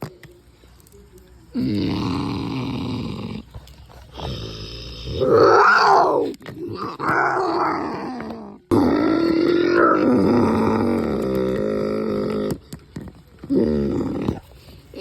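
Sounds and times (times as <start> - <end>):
person growling and snarling: 1.5 - 12.6, 13.4 - 15.0.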